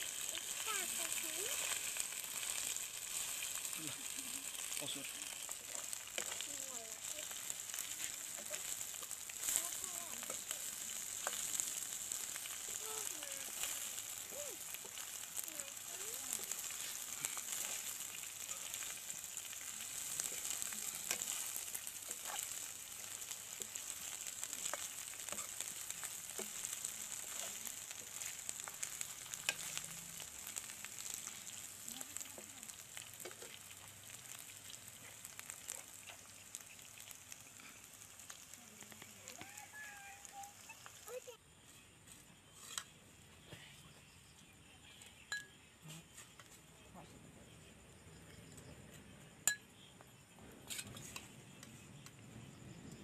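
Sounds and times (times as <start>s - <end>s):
spatula scraping wok: 0.0s - 41.0s, 41.6s - 43.0s, 50.5s - 51.4s
food sizzling in oil: 0.0s - 43.0s, 49.4s - 53.0s.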